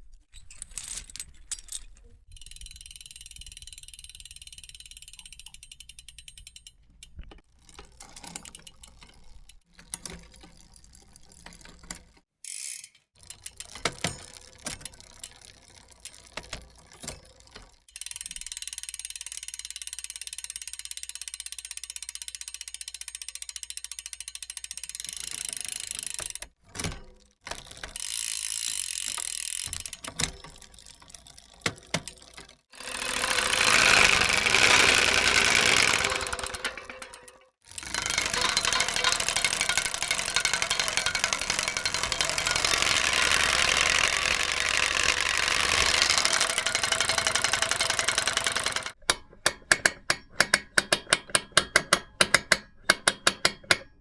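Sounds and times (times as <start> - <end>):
mechanical ratcheting clicks: 2.3 - 10.7, 12.5 - 49.1.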